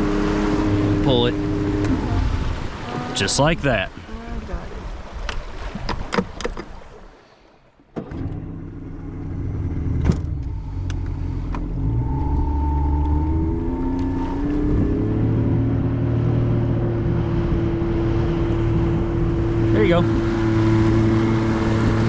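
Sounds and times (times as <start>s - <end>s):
outboard motor running: 0.0s - 7.2s, 7.9s - 22.0s.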